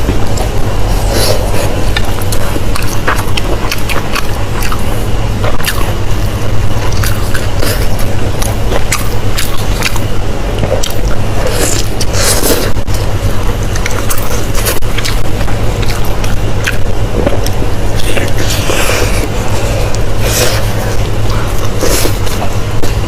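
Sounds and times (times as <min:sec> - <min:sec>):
steady low hum: 0:00.0 - 0:23.0
wet chewing and biting: 0:00.0 - 0:23.0.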